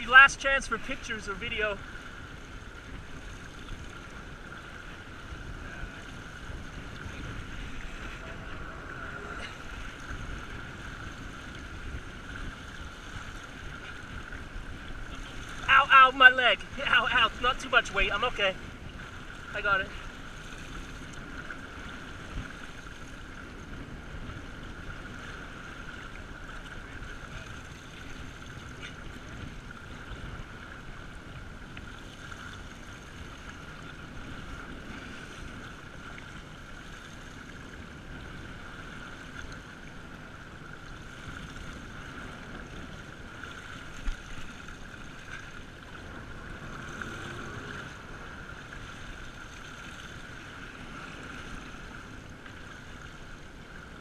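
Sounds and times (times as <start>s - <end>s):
boat engine humming: 0.0s - 54.0s
water rushing and splashing: 0.0s - 54.0s.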